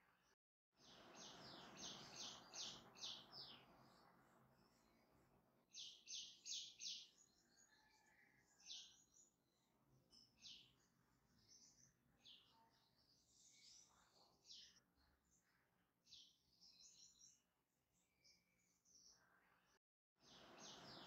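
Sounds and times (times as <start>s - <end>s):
bird chirping: 0.8s - 19.4s, 20.2s - 21.0s.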